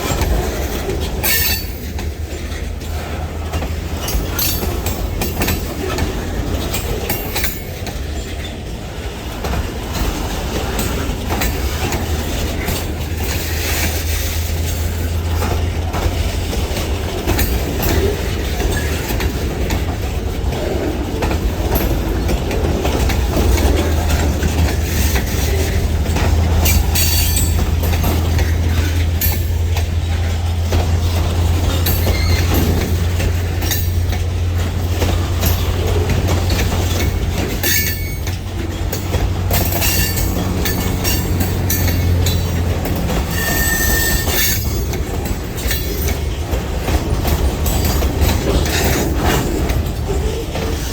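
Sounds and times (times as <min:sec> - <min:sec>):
freight train rumbling past: 0:00.0 - 0:50.9
wheels clicking over rail joints: 0:00.0 - 0:50.9.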